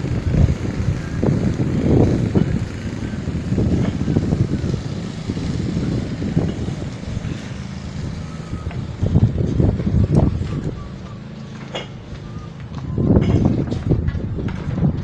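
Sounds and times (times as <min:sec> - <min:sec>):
engine running low rumble: 0:00.0 - 0:15.0
wind buffeting microphone: 0:00.0 - 0:15.0.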